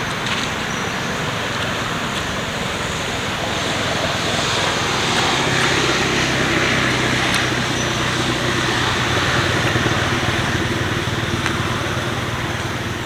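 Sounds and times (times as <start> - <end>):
steady background noise: 0.0 - 13.0
vehicle engine running: 0.0 - 13.0.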